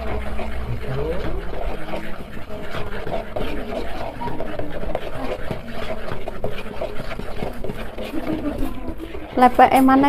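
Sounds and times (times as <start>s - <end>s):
spoon stirring batter in plastic bowl: 0.0s - 10.0s.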